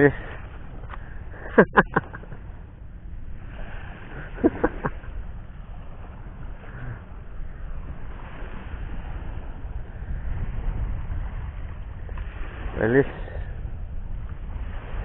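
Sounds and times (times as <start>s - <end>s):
sea surf: 0.0s - 15.0s
wind noise on microphone: 0.0s - 15.0s.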